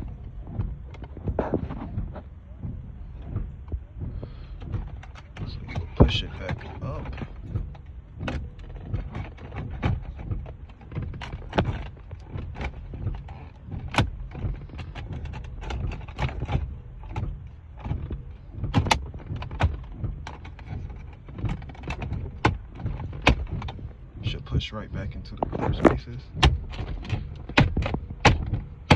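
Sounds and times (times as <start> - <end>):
plastic parts clicking and rattling: 0.0 - 24.6, 25.3 - 28.9.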